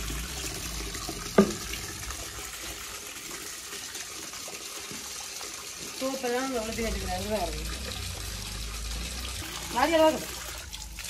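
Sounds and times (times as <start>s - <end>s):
water splashing into plastic basin: 0.0s - 11.0s.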